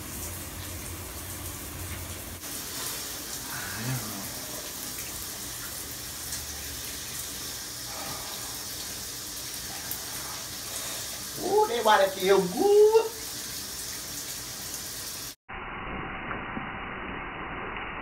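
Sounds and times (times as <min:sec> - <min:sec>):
shower water spraying: 0:00.0 - 0:15.4.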